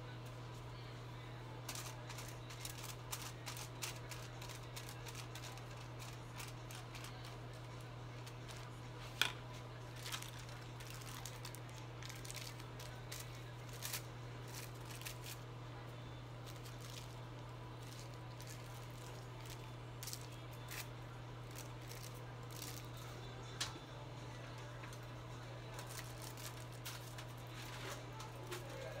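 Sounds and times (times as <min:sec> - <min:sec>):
aluminium foil crinkling: 0:01.6 - 0:15.5, 0:16.4 - 0:23.2, 0:25.7 - 0:29.0.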